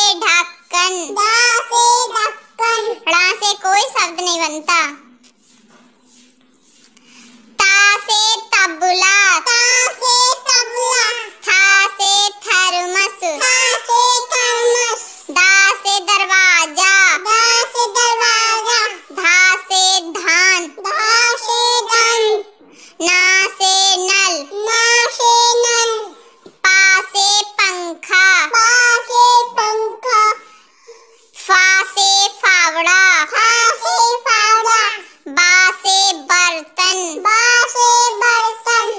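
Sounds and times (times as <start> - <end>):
child singing: 0.0 - 5.1, 7.6 - 30.6, 31.3 - 38.9.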